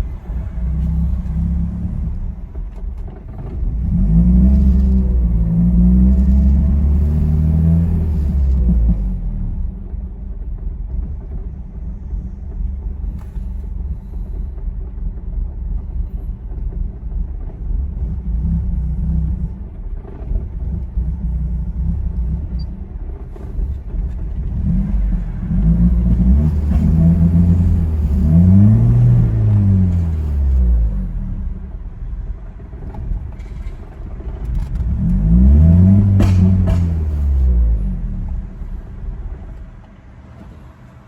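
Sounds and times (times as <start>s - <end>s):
car engine idling roughly and revving: 0.0s - 41.0s.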